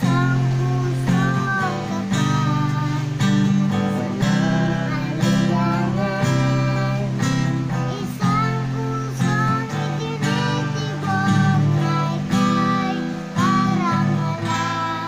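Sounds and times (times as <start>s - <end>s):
acoustic guitar strumming: 0.0s - 15.0s
girl singing: 0.0s - 15.0s.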